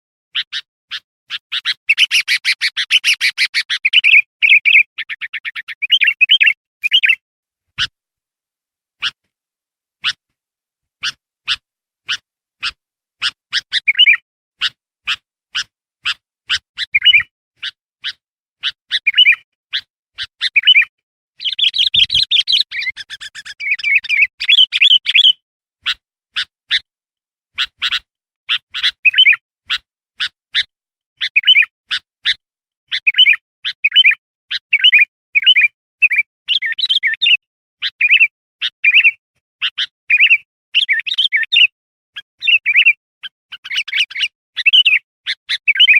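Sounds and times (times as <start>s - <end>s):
bulbul calling: 0.3s - 7.2s, 11.0s - 26.9s, 27.6s - 32.0s, 32.9s - 41.7s, 42.4s - 45.9s.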